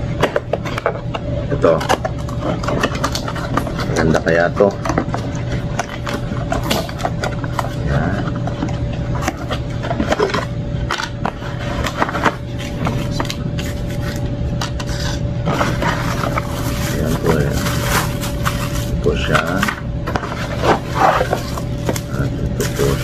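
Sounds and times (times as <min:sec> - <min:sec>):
cardboard scraping and rustling: 0:01.6 - 0:23.0.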